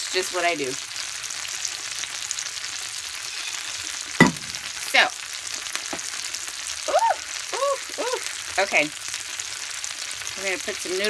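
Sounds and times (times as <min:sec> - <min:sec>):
sauce sizzling in skillet: 0:00.0 - 0:11.0.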